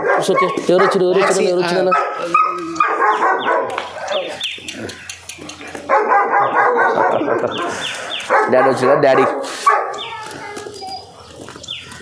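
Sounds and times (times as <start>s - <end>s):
puppy barking and yelping: 0.0s - 10.1s.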